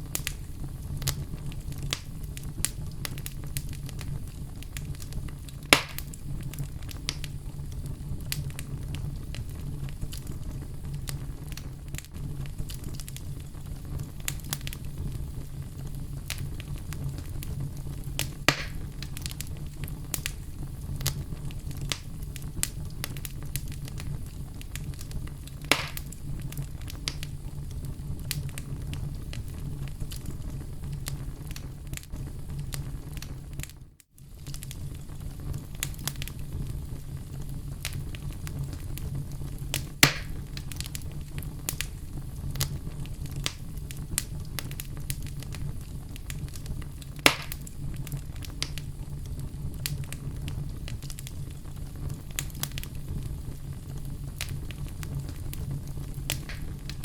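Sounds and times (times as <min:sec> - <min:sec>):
fire crackling: 0:00.0 - 0:57.0
fire rumbling: 0:00.0 - 0:57.0
wood fire pops: 0:00.0 - 0:57.0.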